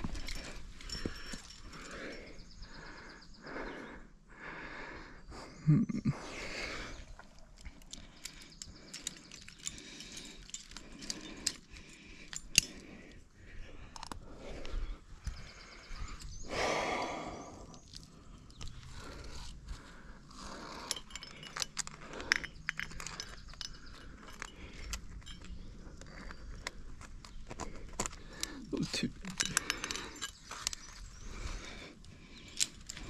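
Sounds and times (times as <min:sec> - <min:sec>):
climbing gear clinking: 0:00.0 - 0:03.8, 0:05.8 - 0:33.0
person breathing hard: 0:00.0 - 0:33.0.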